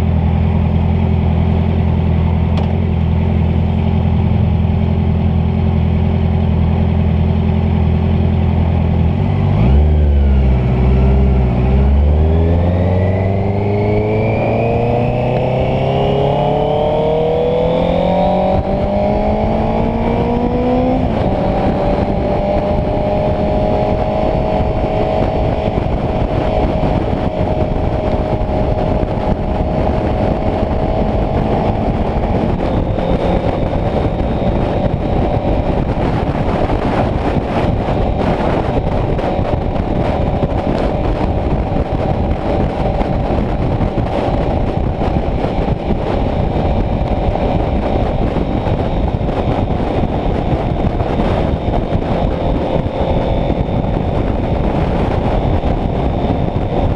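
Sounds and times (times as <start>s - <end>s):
motorcycle engine revving: 0.0s - 56.9s
wind rushing over microphone: 0.0s - 56.9s.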